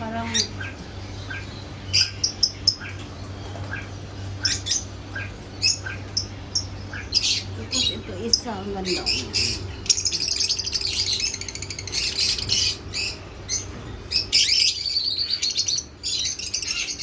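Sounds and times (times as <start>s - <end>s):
small birds chirping chorus: 0.0s - 17.0s.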